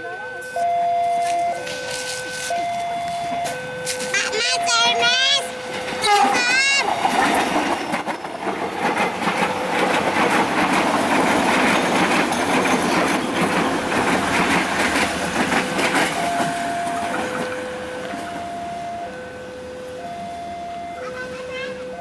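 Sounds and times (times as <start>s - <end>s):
two-tone crossing alarm: 0.0s - 8.5s, 12.3s - 22.0s
train wheels clicking on rail joints: 0.5s - 22.0s.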